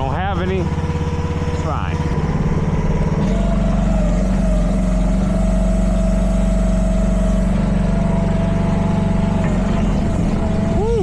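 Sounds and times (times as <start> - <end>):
small gasoline engine running: 0.0 - 11.0
steady whine: 0.0 - 11.0.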